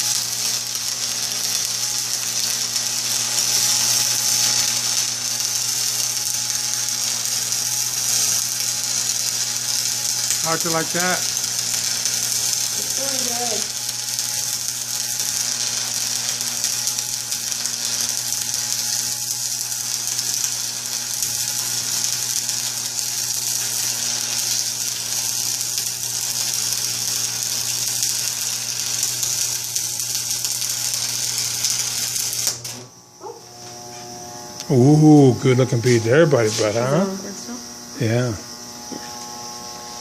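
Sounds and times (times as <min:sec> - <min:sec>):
welding arc hissing: 0:00.0 - 0:40.0.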